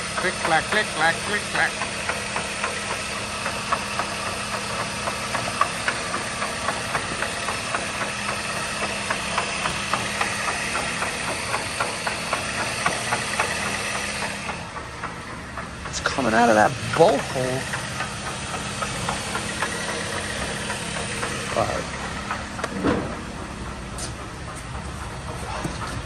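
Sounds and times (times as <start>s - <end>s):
car engine humming: 0.0s - 26.0s
repeated click-clack: 0.0s - 26.0s.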